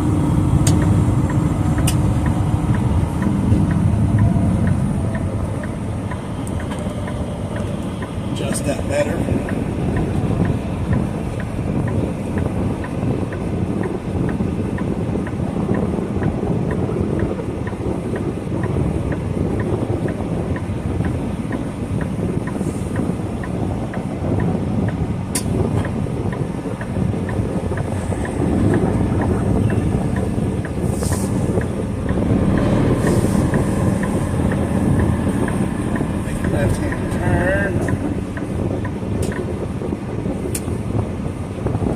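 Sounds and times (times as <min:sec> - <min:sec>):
truck engine and road rumble: 0:00.0 - 0:41.9
turn signal ticking: 0:00.0 - 0:41.9
wind noise: 0:00.0 - 0:41.9.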